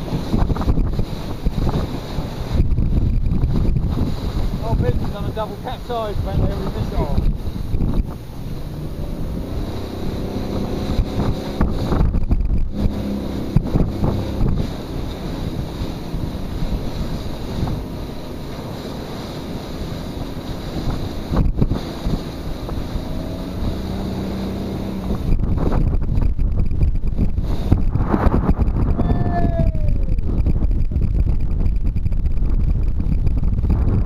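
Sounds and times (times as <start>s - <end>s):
motorboat engine running: 0.0s - 34.0s
wind buffeting microphone: 0.0s - 34.0s.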